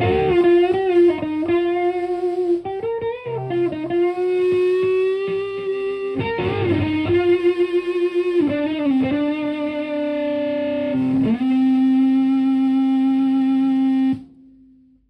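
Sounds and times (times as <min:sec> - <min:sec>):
distorted electric guitar notes: 0:00.0 - 0:15.0.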